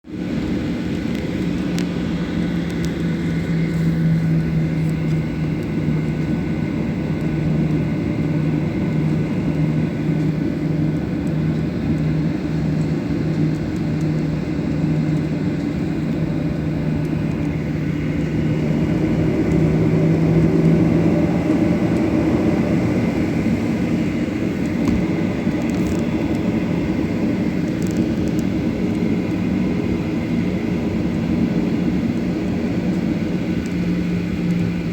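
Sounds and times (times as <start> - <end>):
jet engines rumbling from cabin: 0.0 - 34.9.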